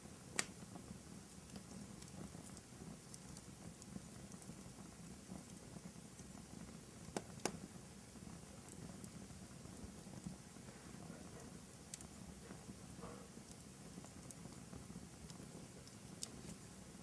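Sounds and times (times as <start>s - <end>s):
sharp pops from fire: 0.0s - 17.0s
wood fire crackling: 0.0s - 17.0s.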